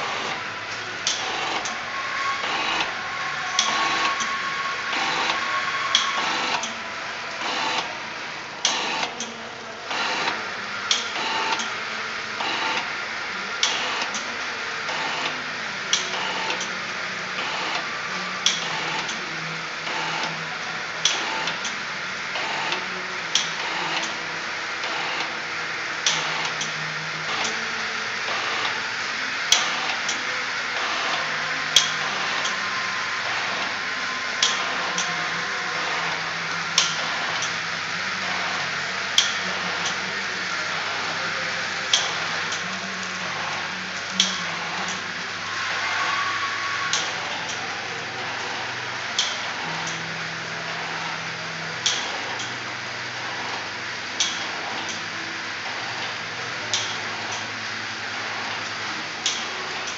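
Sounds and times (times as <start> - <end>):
packing machine whirring: 0.0 - 59.9.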